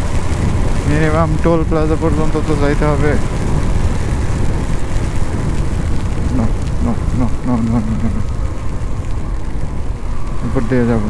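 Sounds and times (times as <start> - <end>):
motorcycle engine drone: 0.0 - 11.0
wind rushing over microphone: 0.0 - 11.0.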